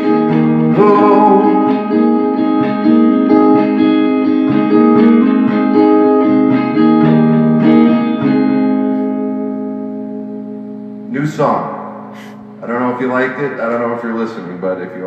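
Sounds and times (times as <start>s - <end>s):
guitar playing chords: 0.0s - 15.0s.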